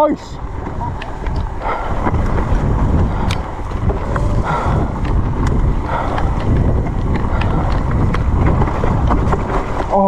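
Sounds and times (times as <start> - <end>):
bike knocking and rattling: 0.0 - 10.0
bike tyre noise: 0.0 - 10.0
wind rumble on microphone: 0.0 - 10.0.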